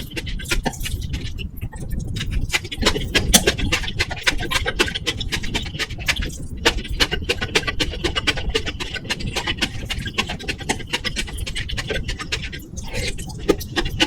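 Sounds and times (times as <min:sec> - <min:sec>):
microphone rumble and crackle: 0:00.0 - 0:14.0
wet chewing clicks: 0:00.0 - 0:14.0.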